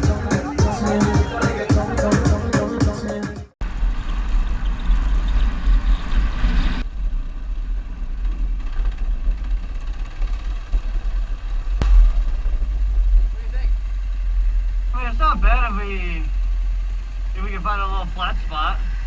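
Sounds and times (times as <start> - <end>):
road noise: 0.0 - 19.0
motorcycle engine: 3.6 - 19.0.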